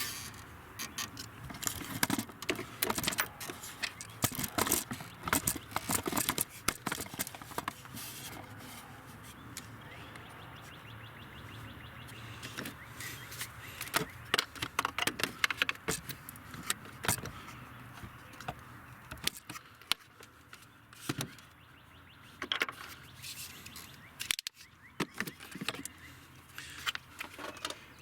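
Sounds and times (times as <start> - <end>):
plastic parts and tools rattling: 0.0 - 10.2, 12.2 - 21.5, 22.4 - 28.0.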